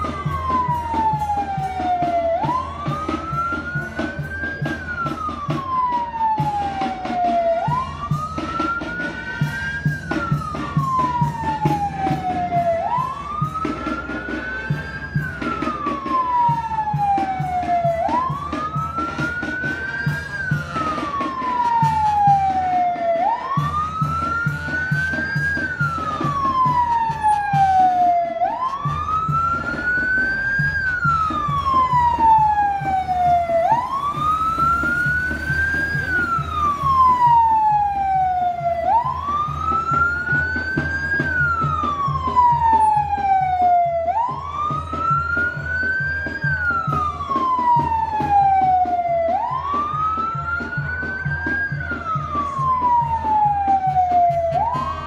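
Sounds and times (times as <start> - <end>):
siren wailing: 0.0 - 55.0.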